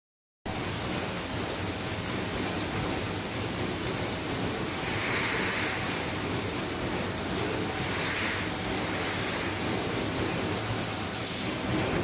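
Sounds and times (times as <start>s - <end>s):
workshop hiss: 0.5s - 12.0s.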